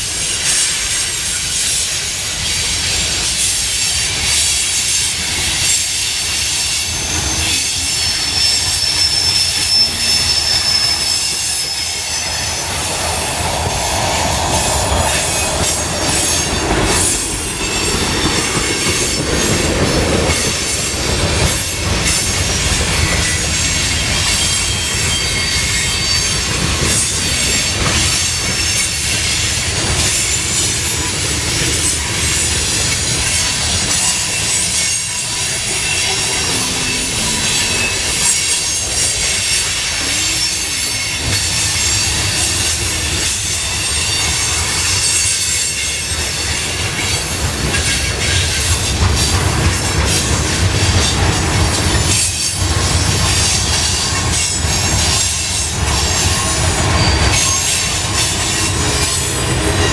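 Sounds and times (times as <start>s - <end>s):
steel wheels rushing on rail: 0.0s - 59.9s
wheels clacking over rail joints: 0.0s - 59.9s
high-pitched wheel squeal: 0.3s - 21.0s, 21.6s - 50.2s, 51.0s - 59.9s.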